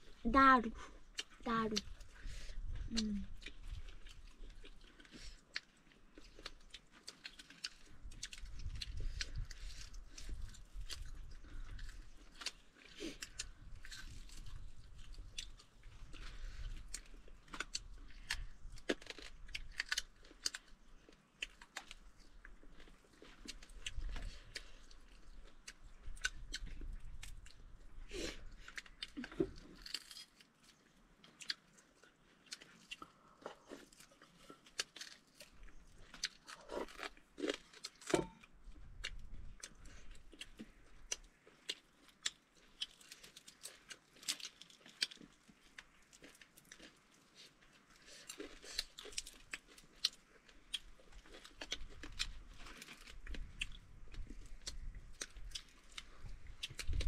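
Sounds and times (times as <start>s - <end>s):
people chewing crispy food: 0.0s - 57.0s.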